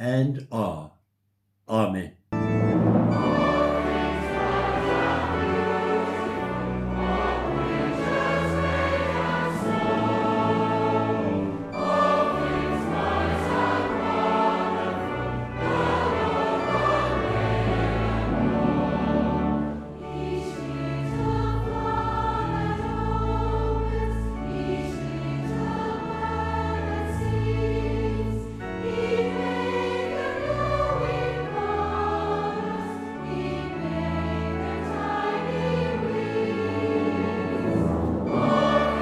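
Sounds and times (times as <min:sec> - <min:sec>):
instrumental accompaniment: 0:02.4 - 0:39.0
choir singing slow chords: 0:02.5 - 0:39.0.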